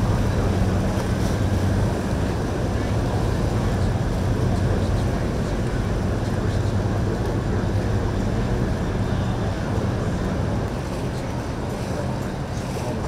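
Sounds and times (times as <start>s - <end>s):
boat engine droning: 0.0s - 13.0s
water washing: 0.0s - 13.0s.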